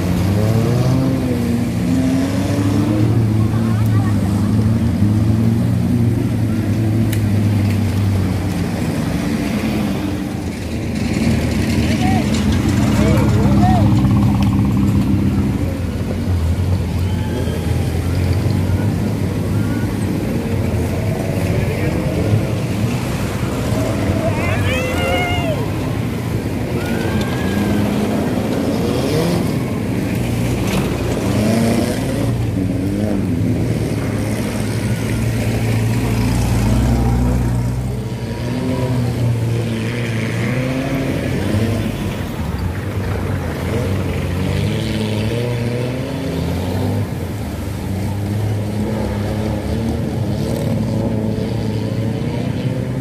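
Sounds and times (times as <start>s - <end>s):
jeep engines revving: 0.0s - 53.0s
water splashing around wheels: 0.0s - 53.0s.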